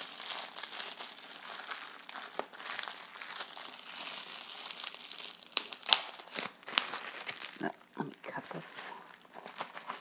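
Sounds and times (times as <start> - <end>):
bubble wrap crackles: 0.0 - 10.0
bubble wrap crinkling: 0.0 - 10.0.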